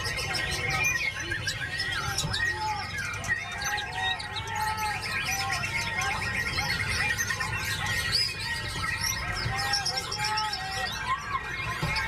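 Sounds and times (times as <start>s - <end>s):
other birds calling: 0.0s - 12.0s
songbird singing chirps and whistles: 0.0s - 12.0s.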